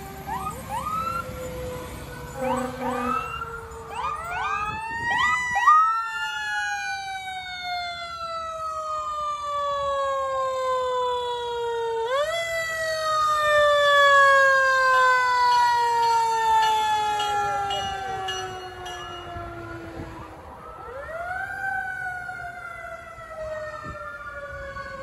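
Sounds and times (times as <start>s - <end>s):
mechanical siren wailing: 0.0s - 25.0s.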